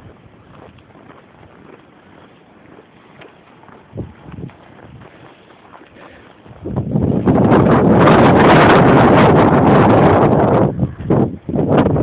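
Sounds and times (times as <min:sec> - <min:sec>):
footsteps in snow: 0:00.0 - 0:09.8
wind buffeting microphone: 0:00.0 - 0:12.0.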